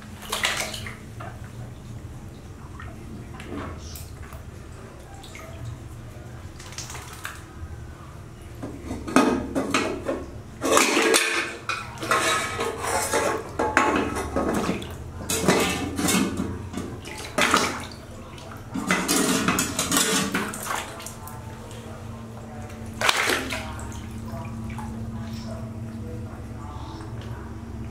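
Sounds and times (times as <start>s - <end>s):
water splashing in a basin: 0.0s - 7.8s, 8.4s - 27.9s.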